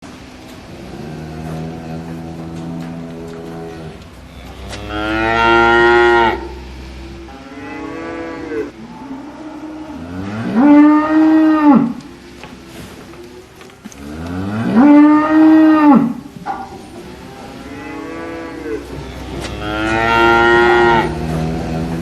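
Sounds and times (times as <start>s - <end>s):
cattle mooing: 0.8s - 12.1s, 14.0s - 16.2s, 17.3s - 22.0s.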